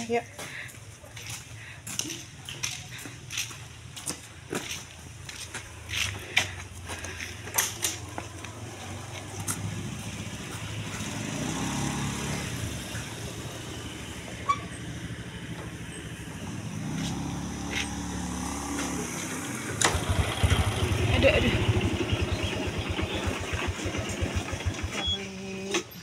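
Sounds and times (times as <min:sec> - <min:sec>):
vehicle engine running: 0:00.0 - 0:25.7.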